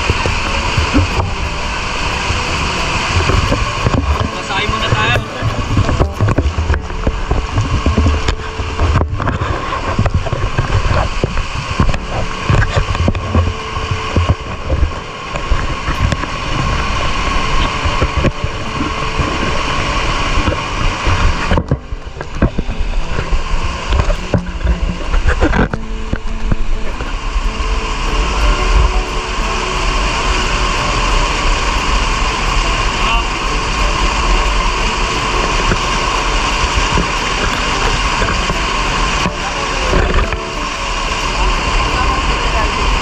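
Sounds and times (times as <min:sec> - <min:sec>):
rushing water cascade: 0:00.0 - 0:43.0.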